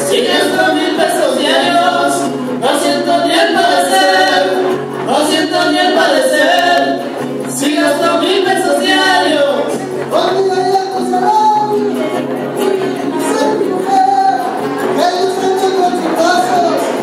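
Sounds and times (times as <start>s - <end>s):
band music: 0.0s - 17.0s
voices singing in harmony: 0.0s - 17.0s.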